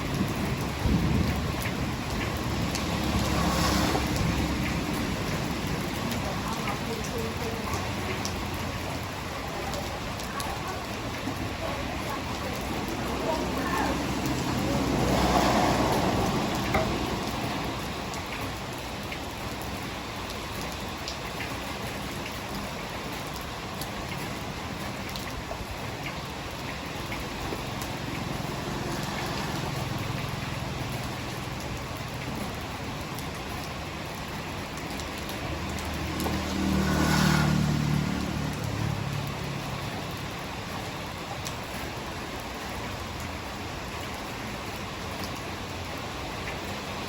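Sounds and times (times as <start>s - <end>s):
heavy rain hissing: 0.0s - 47.0s.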